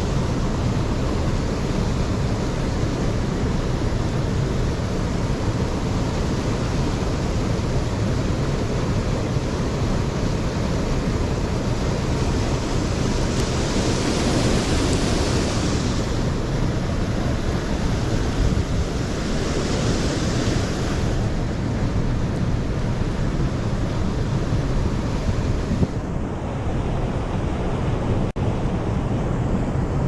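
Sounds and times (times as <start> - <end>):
stream water rushing: 0.0 - 29.2.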